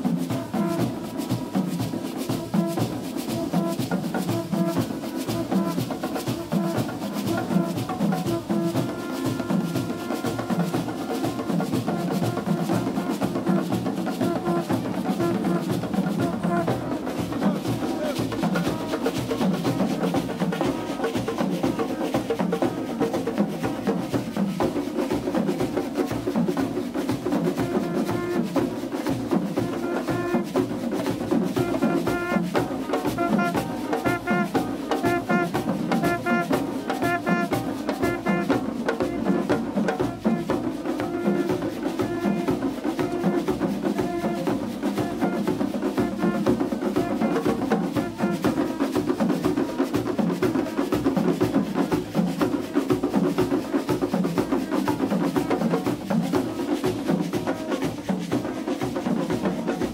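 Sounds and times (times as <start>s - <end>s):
hand drums and shakers: 0.0s - 59.9s.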